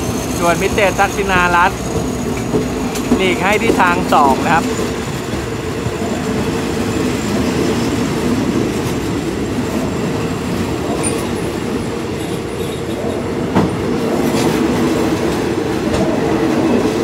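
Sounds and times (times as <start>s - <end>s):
train rumbling: 0.0s - 17.0s
train wheels clacking over rails: 0.0s - 17.0s.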